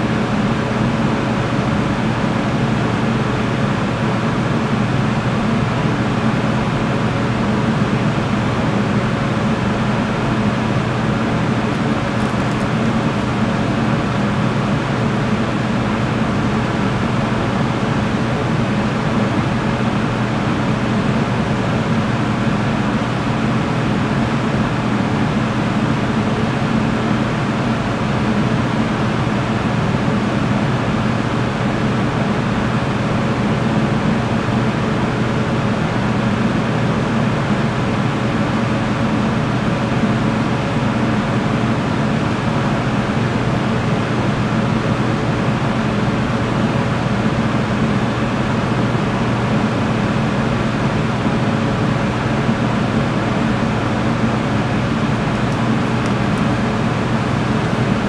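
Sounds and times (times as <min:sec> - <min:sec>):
machine drone with fan noise: 0:00.0 - 0:58.0.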